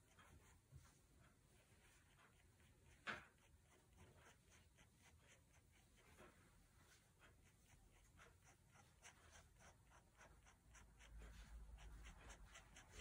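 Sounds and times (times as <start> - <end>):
pen scratching on paper: 0.0 - 0.7, 1.7 - 13.0.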